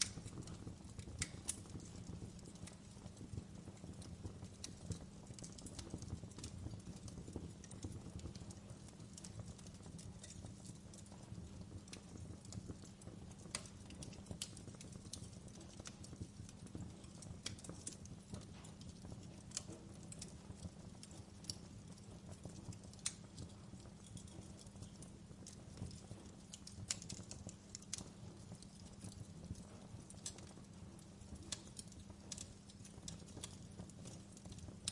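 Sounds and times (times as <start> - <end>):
low rumble of flames: 0.0 - 34.9
wood fire pops and snaps: 0.0 - 34.9.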